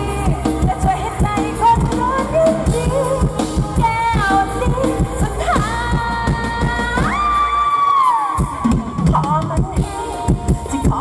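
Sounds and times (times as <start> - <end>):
amplified live band: 0.0 - 11.0
drum beat: 0.0 - 11.0
woman singing into microphone: 0.0 - 11.0.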